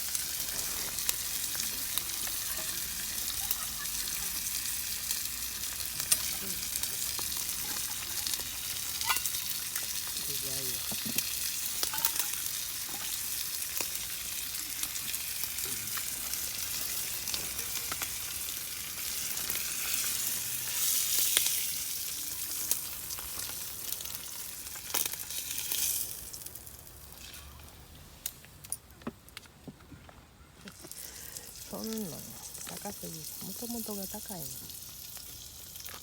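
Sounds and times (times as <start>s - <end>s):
food sizzling in a pan: 0.0s - 27.7s, 30.8s - 36.0s.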